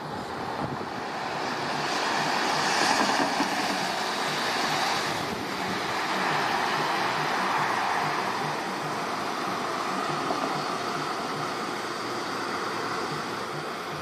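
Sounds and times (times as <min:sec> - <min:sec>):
rain and wind hissing: 0:00.0 - 0:14.0.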